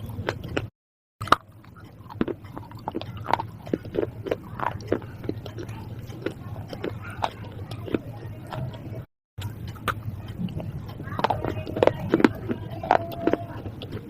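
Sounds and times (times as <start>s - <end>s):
crunchy food chewing: 0.0s - 14.0s
steady low hum: 0.0s - 14.0s.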